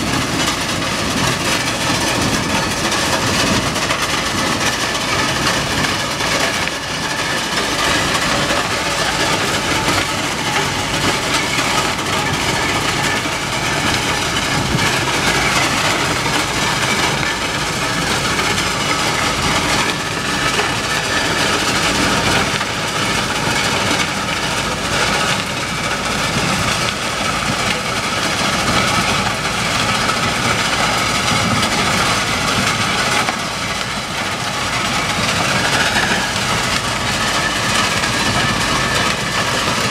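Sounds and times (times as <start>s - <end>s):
track-cleaning machine running: 0.0s - 39.9s.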